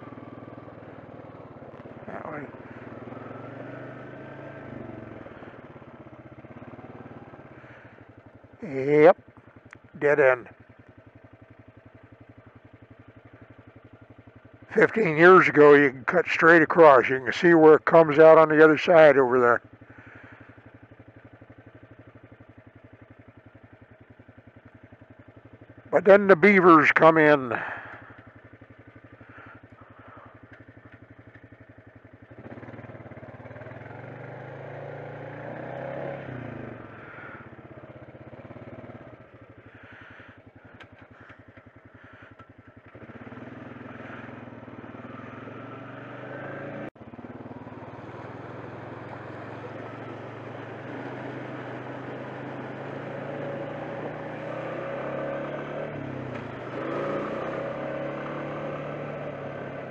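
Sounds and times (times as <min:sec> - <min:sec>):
quad bike engine revving: 0:00.0 - 0:10.6, 0:14.6 - 0:22.2, 0:25.8 - 0:28.4, 0:29.2 - 0:31.5, 0:32.2 - 0:59.9.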